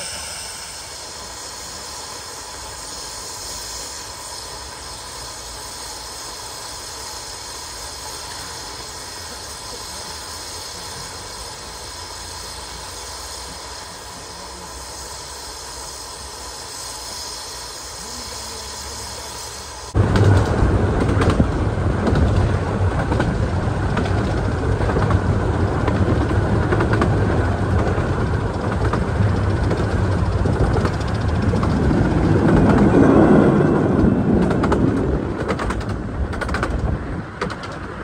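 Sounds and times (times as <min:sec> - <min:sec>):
steam train hiss and rumble: 0:00.0 - 0:38.0.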